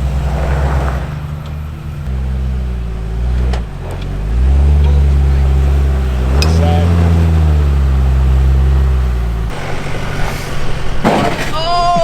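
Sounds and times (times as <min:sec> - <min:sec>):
truck engine revving: 0:00.0 - 0:11.5.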